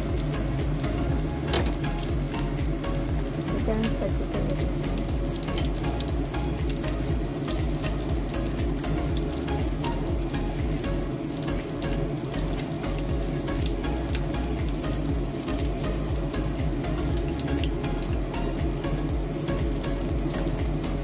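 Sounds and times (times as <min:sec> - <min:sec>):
tofu sizzling in oil: 0:00.0 - 0:21.0.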